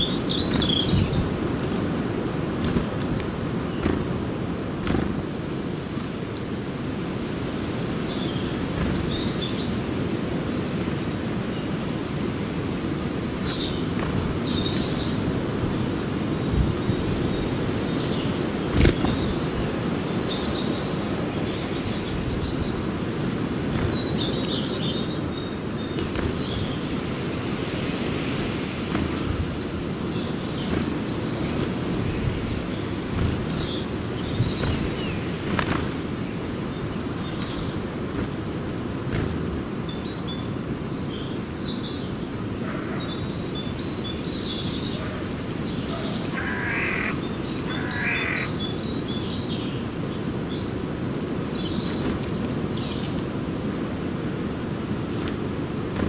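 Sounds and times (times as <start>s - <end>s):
harsh bird calls: 0.0s - 6.6s, 12.9s - 53.1s
small birds chirping: 0.0s - 7.0s, 7.6s - 56.0s.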